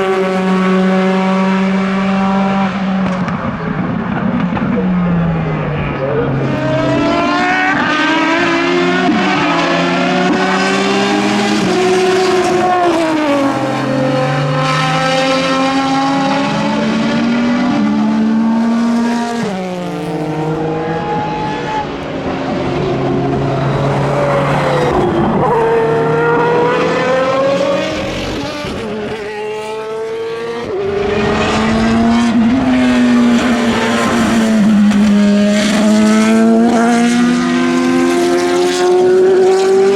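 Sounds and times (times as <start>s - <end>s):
racing cars passing: 0.0s - 39.9s
racing engines revving through gears: 0.0s - 39.9s.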